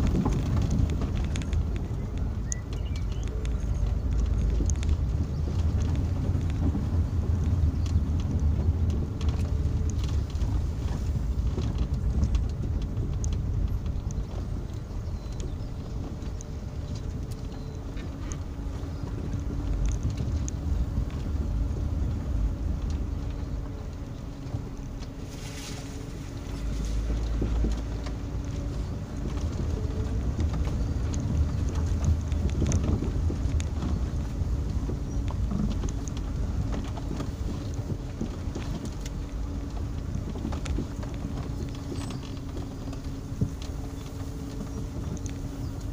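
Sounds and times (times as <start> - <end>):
car rumble on dirt track: 0.0 - 45.9.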